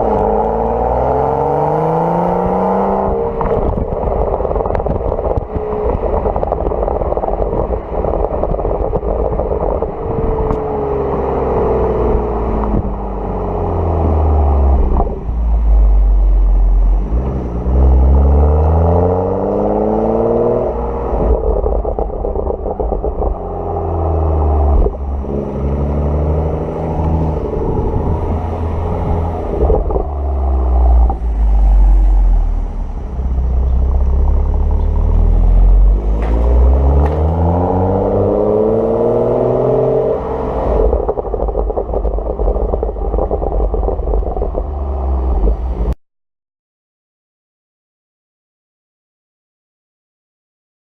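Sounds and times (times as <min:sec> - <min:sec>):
exhaust cracks: 0:00.0 - 0:18.2, 0:19.2 - 0:46.0
car exhaust revving: 0:00.0 - 0:46.0.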